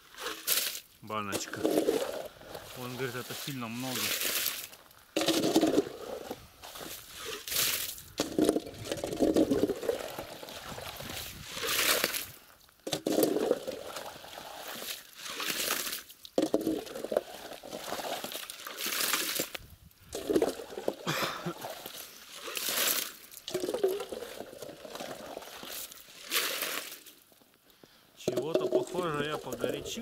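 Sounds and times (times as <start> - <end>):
ladle scooping and pouring water: 0.0 - 27.2, 28.2 - 30.0.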